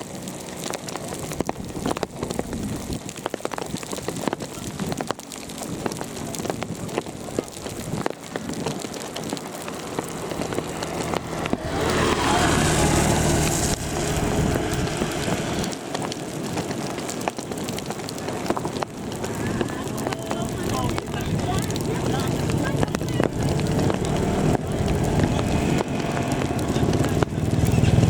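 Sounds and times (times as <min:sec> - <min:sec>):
heavy rain falling: 0:00.0 - 0:28.0
rushing noise with low hum: 0:00.2 - 0:28.0.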